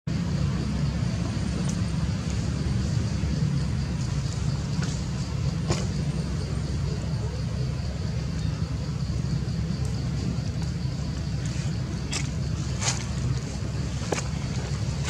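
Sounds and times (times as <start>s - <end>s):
low outdoor rumble: 0.1s - 15.0s.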